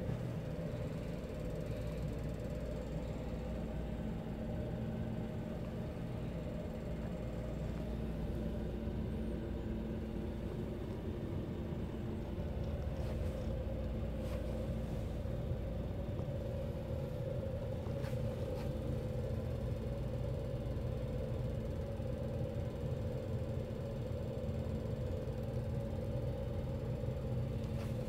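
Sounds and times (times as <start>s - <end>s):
faint rumble: 0.0s - 28.0s
low hum: 0.0s - 28.0s.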